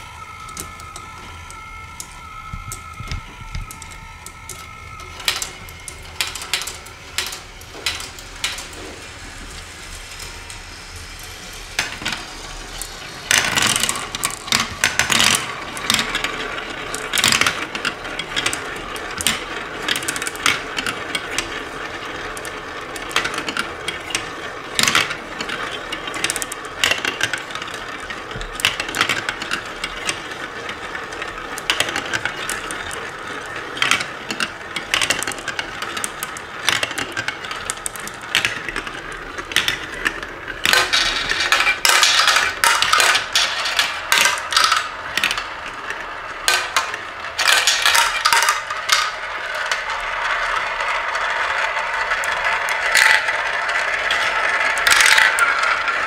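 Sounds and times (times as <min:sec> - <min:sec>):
marbles clicking together: 0:00.0 - 0:08.8, 0:11.2 - 0:56.0
marbles rolling through plastic tubes: 0:00.0 - 0:56.0.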